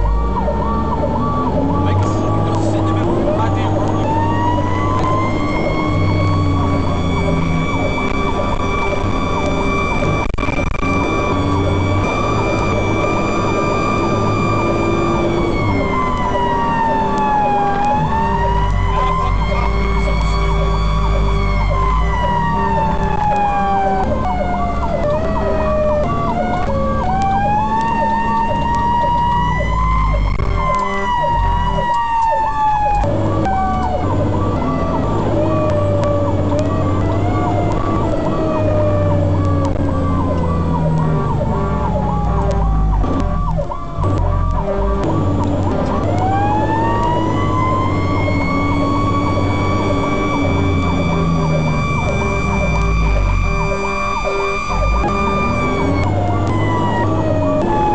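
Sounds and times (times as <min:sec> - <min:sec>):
fire truck siren wailing: 0:00.0 - 0:57.9
truck engine drone: 0:00.0 - 0:57.9.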